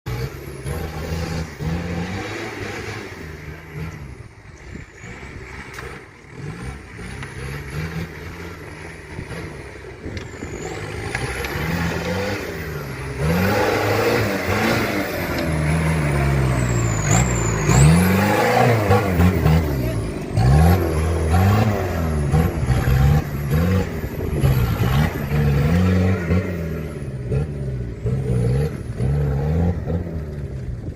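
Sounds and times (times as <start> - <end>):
off-road vehicle engine revving: 0.0 - 30.9.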